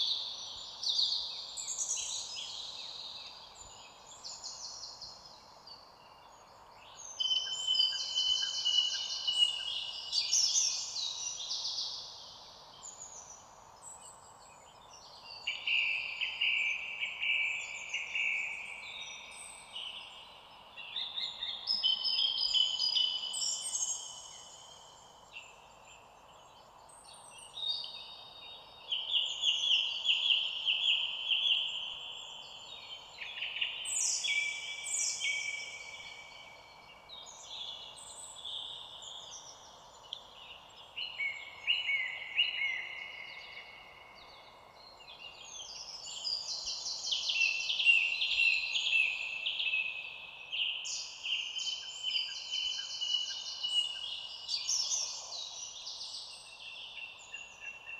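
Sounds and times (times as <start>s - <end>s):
faint background hiss: 0.0s - 57.9s
songbirds chirping and trilling: 0.0s - 57.9s.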